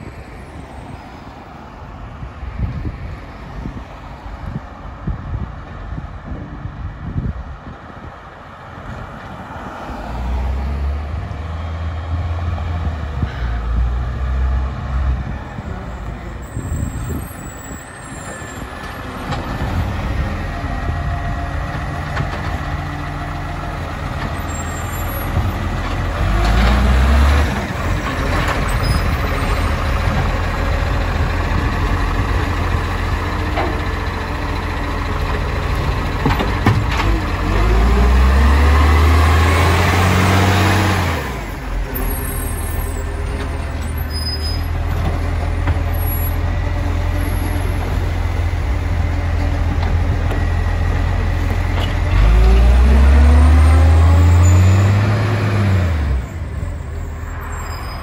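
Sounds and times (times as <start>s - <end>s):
garbage truck diesel engine: 10.0s - 58.0s.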